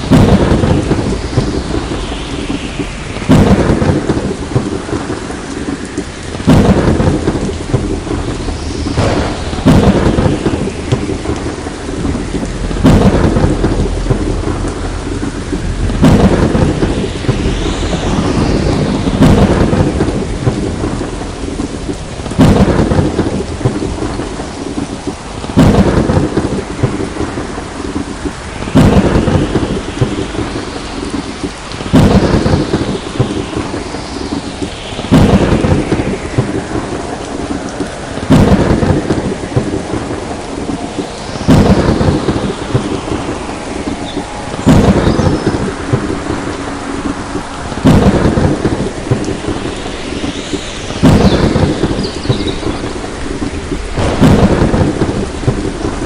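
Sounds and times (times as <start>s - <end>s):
heavy rain: 0.0s - 56.0s
thunder claps: 0.0s - 56.0s.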